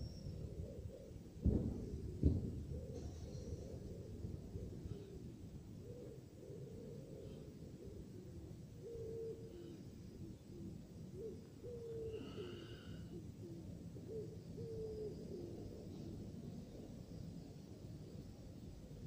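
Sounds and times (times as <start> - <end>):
bird cooing: 0.0 - 17.0.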